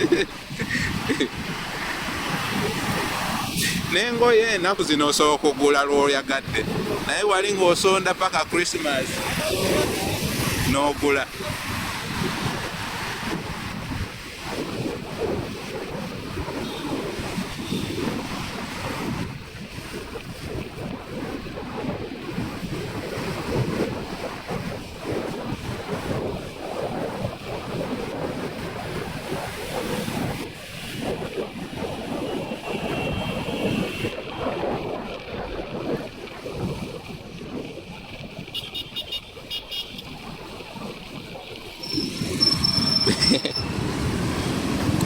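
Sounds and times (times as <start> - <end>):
motorcycle vehicle noise: 0.0 - 45.0
wind buffeting microphone: 0.0 - 45.0.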